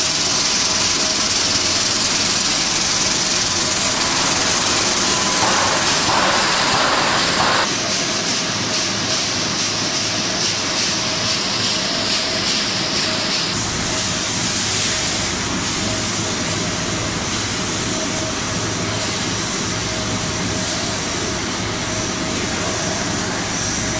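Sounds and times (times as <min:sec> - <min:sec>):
constant machine hum: 0:00.0 - 0:23.9
machinery hiss and rumble: 0:00.0 - 0:23.9.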